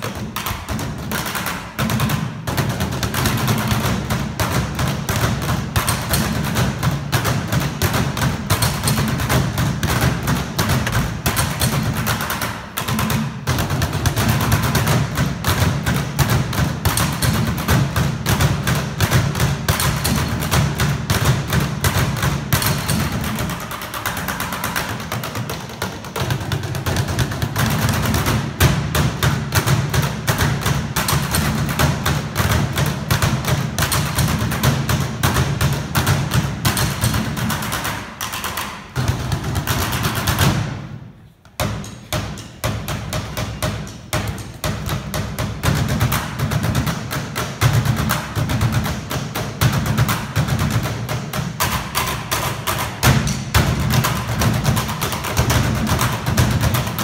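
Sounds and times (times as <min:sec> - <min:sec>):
drumsticks beating on hard suitcases: 0:00.0 - 0:57.0.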